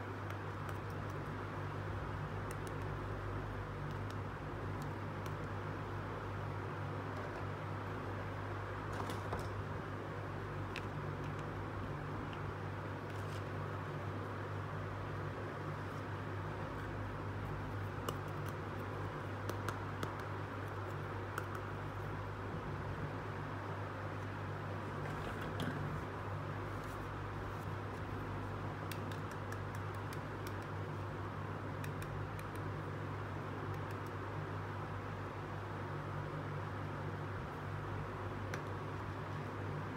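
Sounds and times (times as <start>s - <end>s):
low hum and hiss: 0.0s - 39.9s.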